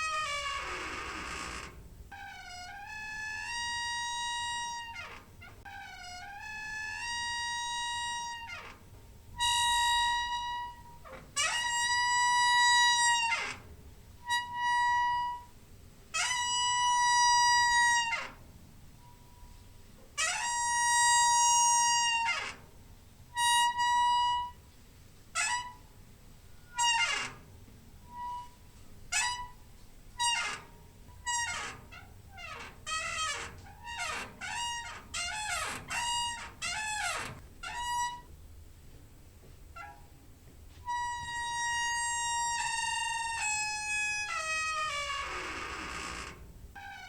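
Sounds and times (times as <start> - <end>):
door hinge squeaking: 0.0 - 19.6, 20.2 - 22.7, 23.3 - 24.6, 25.4 - 25.9, 26.5 - 38.4, 39.7 - 40.2, 40.8 - 47.0.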